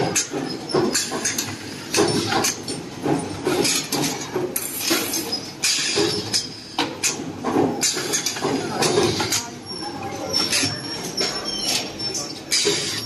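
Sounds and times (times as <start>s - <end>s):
machine metal knocks and clanks: 0.0s - 9.5s, 10.4s - 13.0s.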